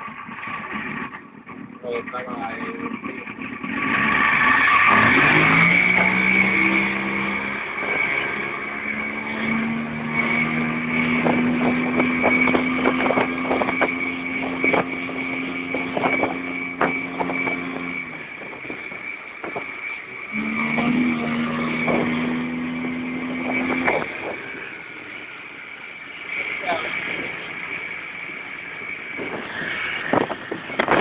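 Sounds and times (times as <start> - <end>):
outboard motor revving: 0.0 - 31.0.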